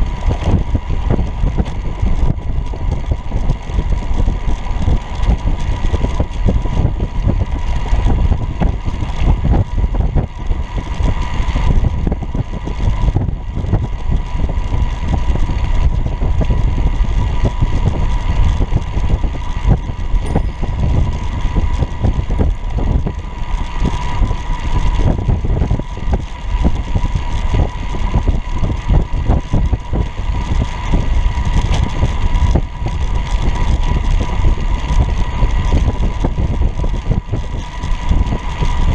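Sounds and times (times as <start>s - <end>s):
road rumble: 0.0s - 38.9s
thin steady whine: 0.0s - 38.9s
wind buffeting: 0.0s - 38.9s.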